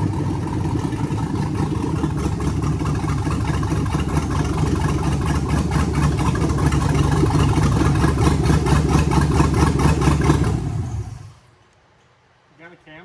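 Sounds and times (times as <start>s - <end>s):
vee eight engine idling: 0.0s - 11.5s.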